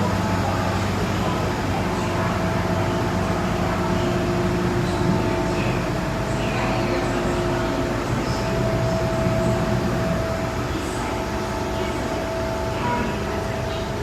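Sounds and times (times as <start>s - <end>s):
train mechanical hum: 0.0s - 14.0s.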